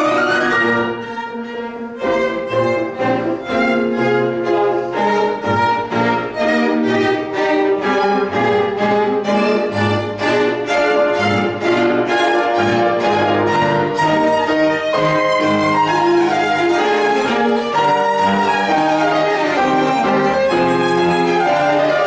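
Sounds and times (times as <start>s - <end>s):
piano notes: 0.0s - 22.0s
sustained string tones: 0.0s - 22.0s.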